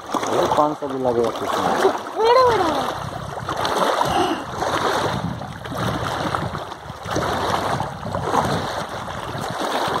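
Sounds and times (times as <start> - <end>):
lake waves lapping against rocks: 0.0 - 10.0.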